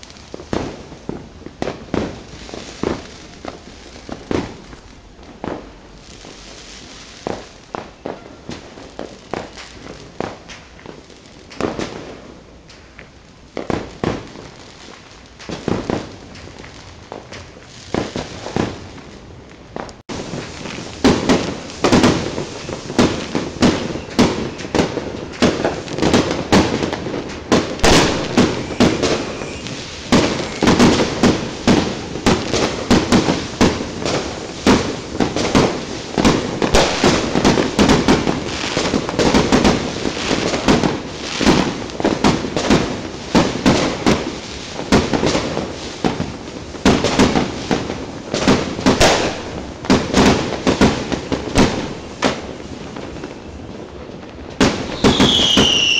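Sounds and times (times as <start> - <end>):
fireworks bangs and cracks: 0.0 - 55.9.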